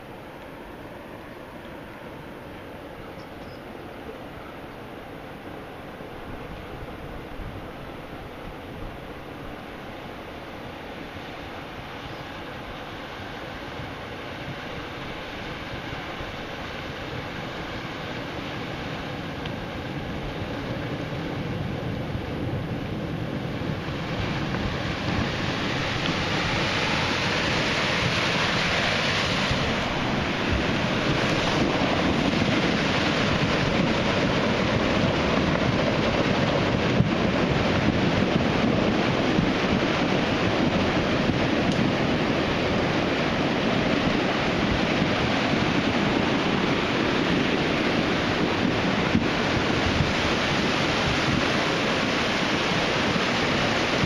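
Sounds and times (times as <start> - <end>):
muddy water rushing: 0.0 - 54.0.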